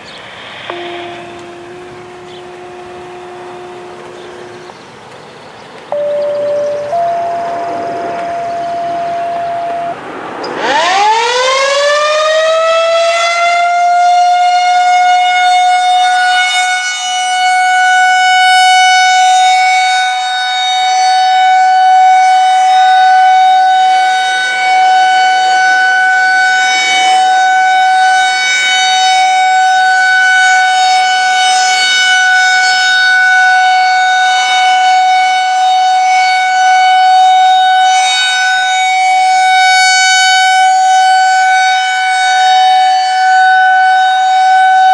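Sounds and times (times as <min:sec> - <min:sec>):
outdoor warning siren: 0:00.0 - 0:44.9.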